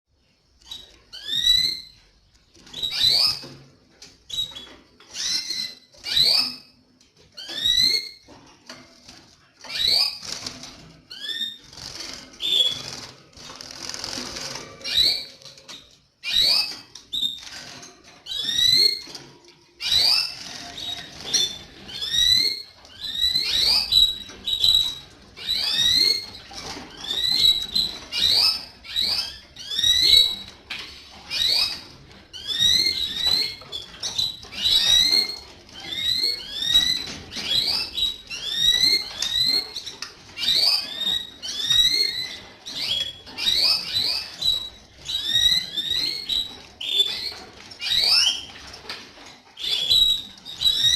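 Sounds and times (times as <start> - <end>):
canaries singing: 0.1 - 50.9.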